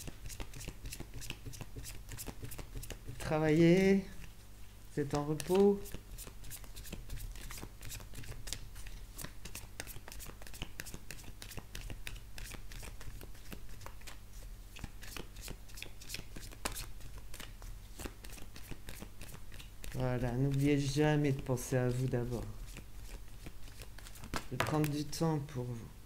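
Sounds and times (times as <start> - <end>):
cards being shuffled: 0.0 - 25.2.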